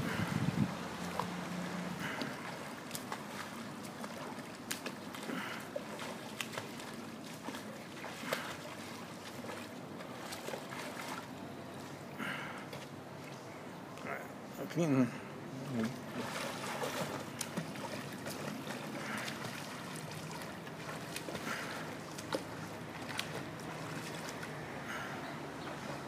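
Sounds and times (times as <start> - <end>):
swimming stroke splashes: 0.0 - 13.0, 15.6 - 26.0
pool water splashing and lapping: 0.0 - 26.0.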